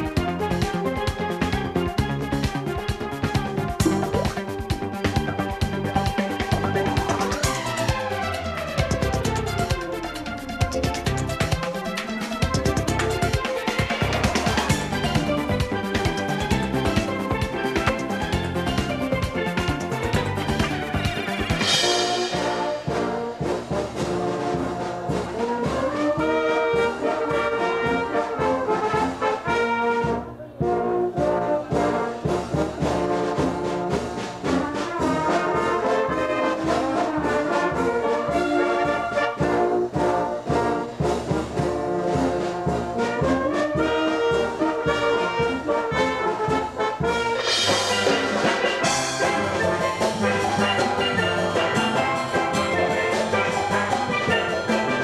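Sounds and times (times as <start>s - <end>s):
steel drum band playing: 0.0s - 55.0s
wind band playing: 0.0s - 55.0s.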